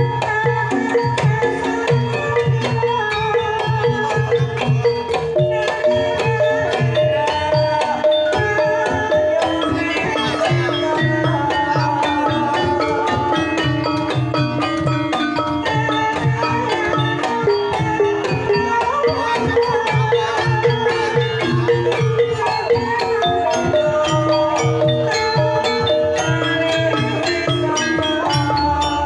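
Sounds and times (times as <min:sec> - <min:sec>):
hand drum pattern: 0:00.0 - 0:29.0
metallophones and gongs: 0:00.0 - 0:29.0.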